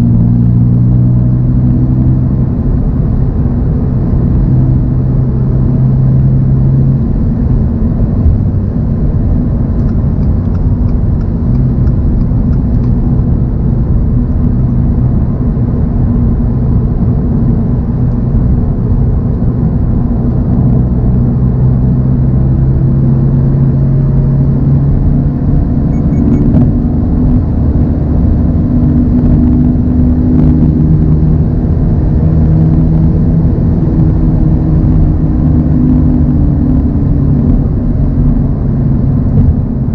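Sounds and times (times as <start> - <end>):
car engine cruising: 0.0 - 39.9
tyre and road noise: 0.0 - 39.9.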